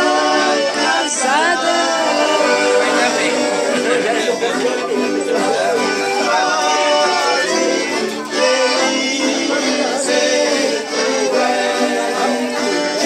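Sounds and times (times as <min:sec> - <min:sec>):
melodic music: 0:00.9 - 0:13.0.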